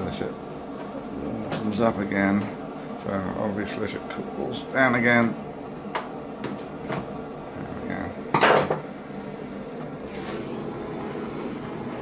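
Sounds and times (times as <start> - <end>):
blowtorch hissing: 0.0 - 12.0.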